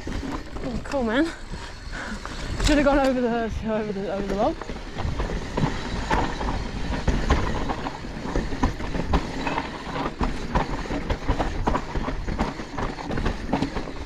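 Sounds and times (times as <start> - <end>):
bike clattering and rattling: 0.0 - 14.0.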